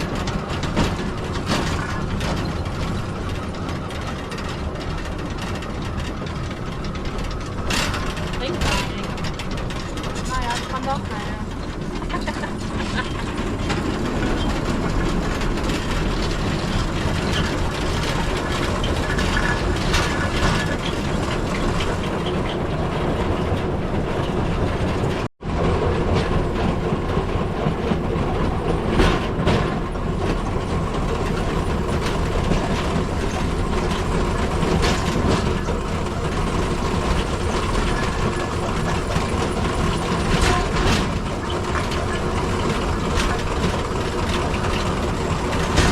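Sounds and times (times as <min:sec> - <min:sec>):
steel wheels rumbling on rails: 0:00.0 - 0:45.9
wheel clicks on rail joints: 0:00.0 - 0:45.9.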